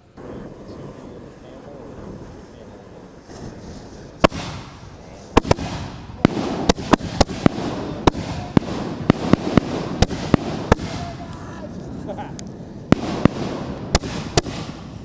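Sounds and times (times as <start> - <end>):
fireworks banging: 0.0 - 15.0
steady hiss: 0.0 - 15.0.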